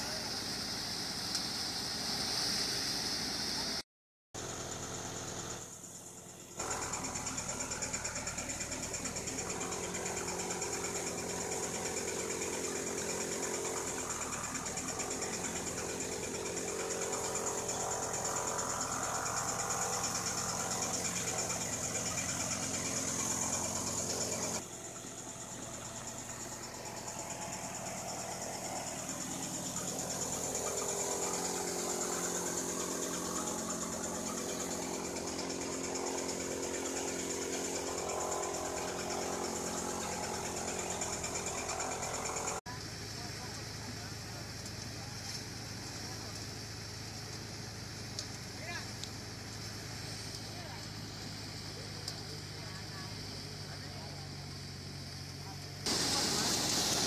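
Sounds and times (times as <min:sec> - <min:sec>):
farm machinery engines running: 0:00.0 - 0:03.8, 0:04.4 - 0:57.0.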